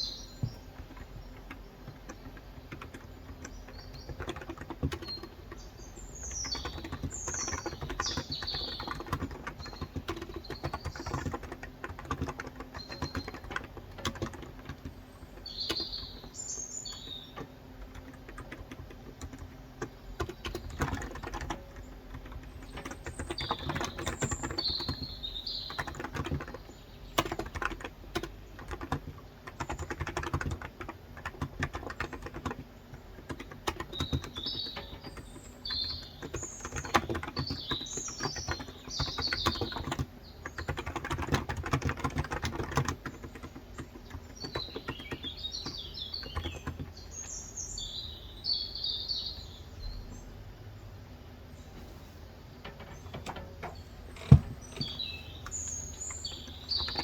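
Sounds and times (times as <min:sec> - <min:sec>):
small birds chirping: 0:00.0 - 0:57.0
keyboard key clacks: 0:00.3 - 0:47.0, 0:52.6 - 0:57.0.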